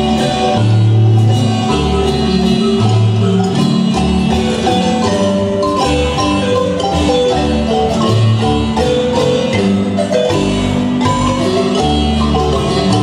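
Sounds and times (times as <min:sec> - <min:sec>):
marimba band playing: 0:00.0 - 0:13.0.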